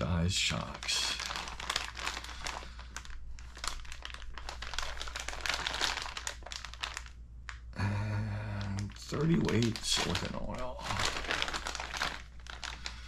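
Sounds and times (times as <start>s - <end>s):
plastic bag crinkling: 0.5s - 7.7s, 8.5s - 13.0s.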